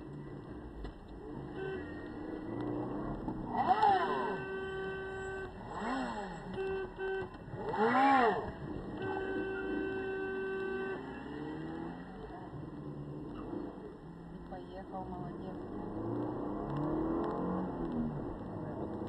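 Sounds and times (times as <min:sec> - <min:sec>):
vehicle engine revving: 0:00.1 - 0:19.0.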